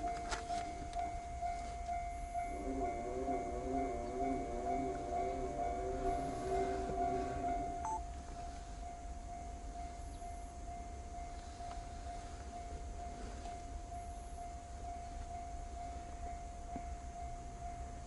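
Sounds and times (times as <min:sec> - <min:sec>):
railroad crossing alarm ringing: 0:00.0 - 0:18.0.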